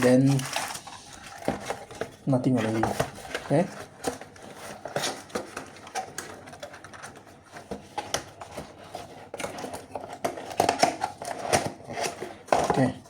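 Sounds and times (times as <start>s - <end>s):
keyboard and packaging handled: 0.0s - 13.0s.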